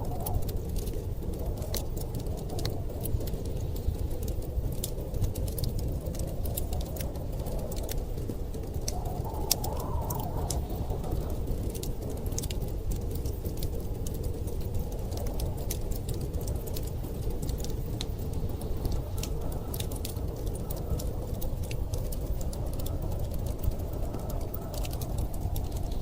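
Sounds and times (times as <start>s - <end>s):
storm wind rushing: 0.0s - 26.0s
wood fire crackling and popping: 0.0s - 26.0s.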